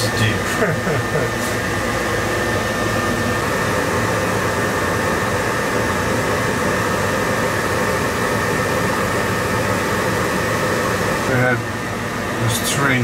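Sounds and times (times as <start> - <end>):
faint high whine: 0.0 - 13.0
whirring hiss of machinery: 0.0 - 13.0.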